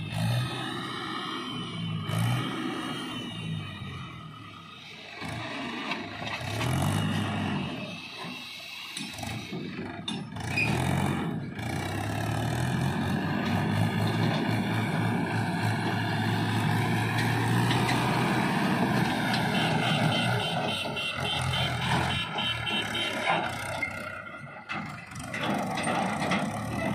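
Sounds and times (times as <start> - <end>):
tractor diesel engine revving: 0.0 - 26.9.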